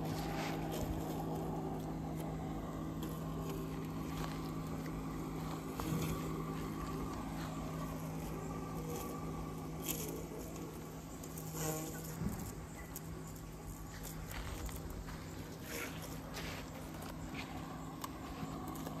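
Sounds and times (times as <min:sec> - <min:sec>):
robotic lawn mower motor hum: 0:00.0 - 0:19.0.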